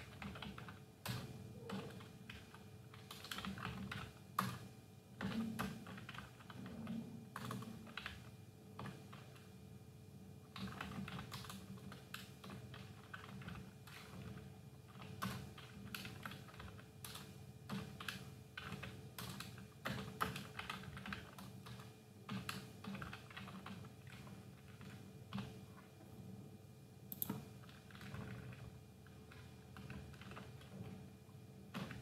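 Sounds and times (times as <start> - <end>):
keyboard typing: 0.0 - 9.5, 10.5 - 25.6, 27.1 - 31.0.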